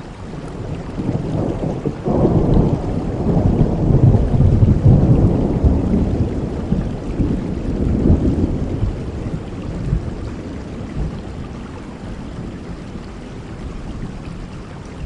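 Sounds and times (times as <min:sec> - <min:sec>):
heavy rain falling: 0:00.0 - 0:15.0
thunder rumbling: 0:00.4 - 0:14.6.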